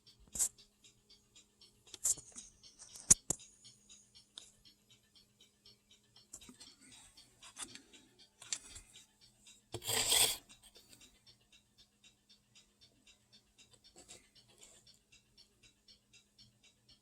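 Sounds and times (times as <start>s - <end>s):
faint steady ticking: 0.0s - 17.0s.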